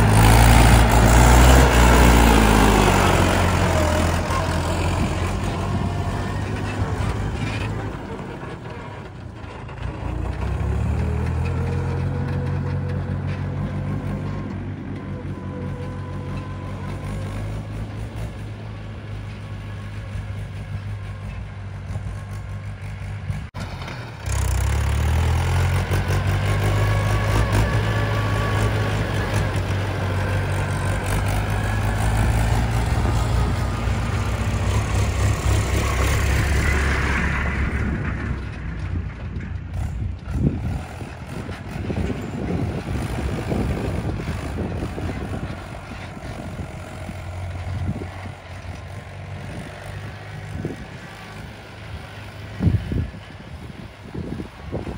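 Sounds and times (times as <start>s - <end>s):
tractor diesel engine under load: 0.0s - 54.9s
trailer knocks and rattles: 0.0s - 54.9s.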